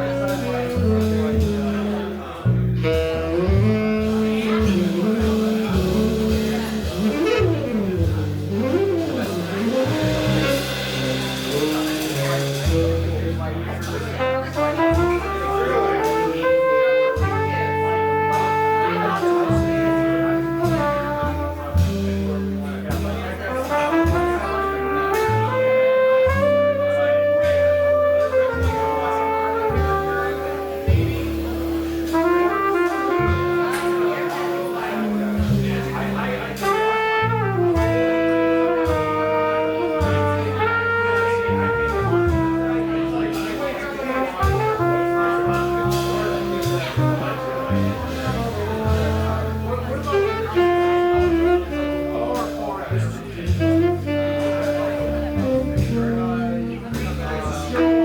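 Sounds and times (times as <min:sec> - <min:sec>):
bass holding low notes: 0:00.0 - 0:58.0
jazz band playing: 0:00.0 - 0:58.0.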